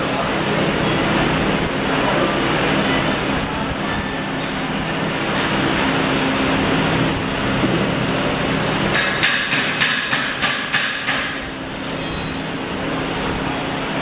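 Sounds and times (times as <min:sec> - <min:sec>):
arc welding crackle: 0:00.0 - 0:14.0
low machine hum: 0:00.0 - 0:14.0.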